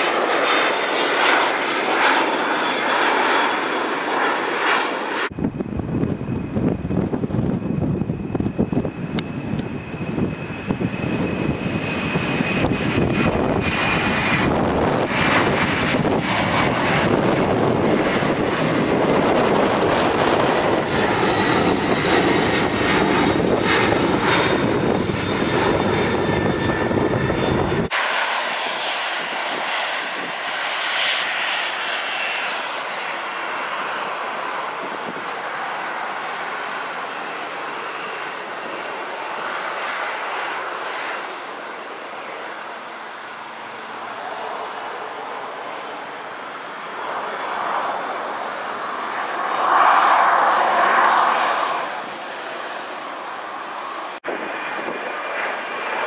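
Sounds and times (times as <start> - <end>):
jet engines roaring at take-off: 0.0 - 56.0
jet engines whining: 0.0 - 56.0.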